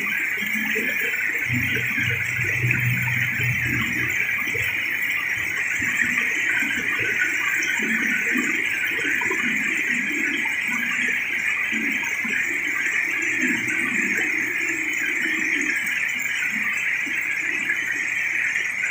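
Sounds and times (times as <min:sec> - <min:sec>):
stream splashing over rocks: 0:00.0 - 0:15.7.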